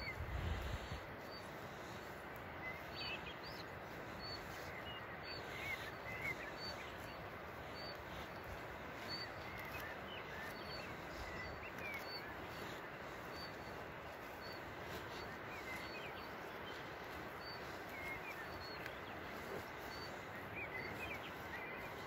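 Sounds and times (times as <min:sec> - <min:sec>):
birds twittering: 0:00.0 - 0:22.0.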